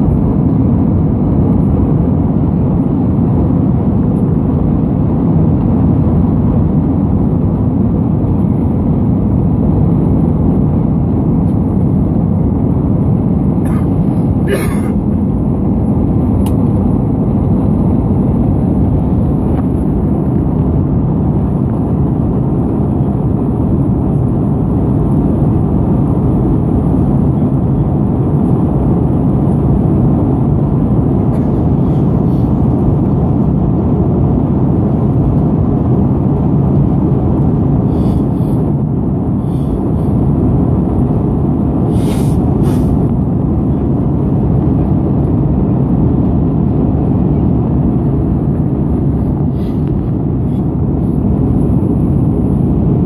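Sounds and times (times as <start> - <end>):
airplane cabin roar: 0.0 - 53.0.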